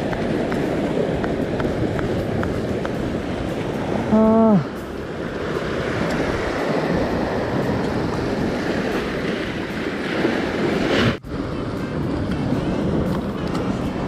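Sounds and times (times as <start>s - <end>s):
waves washing against rocks: 0.0s - 14.0s.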